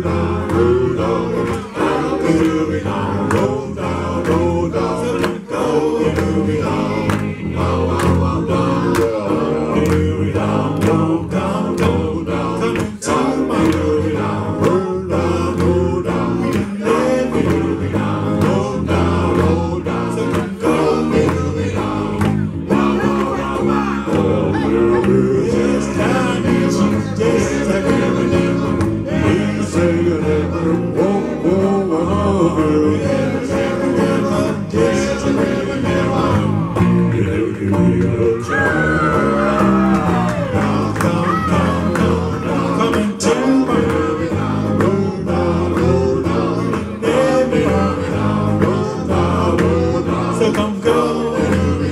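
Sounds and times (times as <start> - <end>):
electric guitars: 0.0 - 51.9
men singing into microphones: 0.0 - 51.9.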